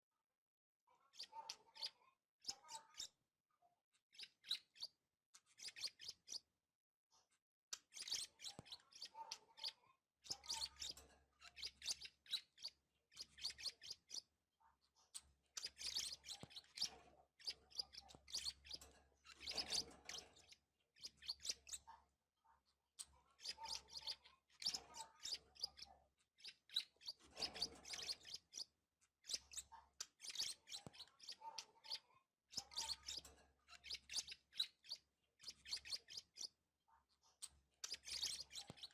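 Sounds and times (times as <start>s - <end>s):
budgerigars chirping and chattering: 1.1s - 3.1s, 4.1s - 6.4s, 7.8s - 14.2s, 15.1s - 22.0s, 23.0s - 36.6s, 37.4s - 38.9s.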